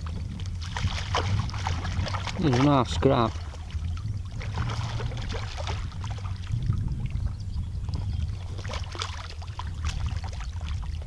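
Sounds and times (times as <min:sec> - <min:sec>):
fish splashing: 0:00.0 - 0:07.2, 0:07.8 - 0:11.0
steady low rumble: 0:00.0 - 0:11.0.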